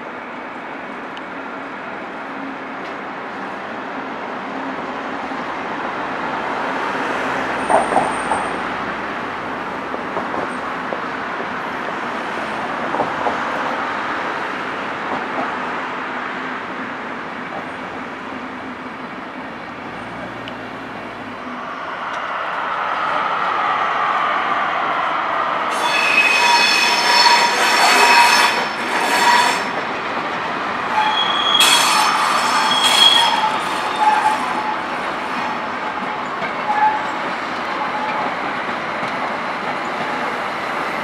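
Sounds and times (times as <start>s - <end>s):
train rumble: 5.3s - 41.0s.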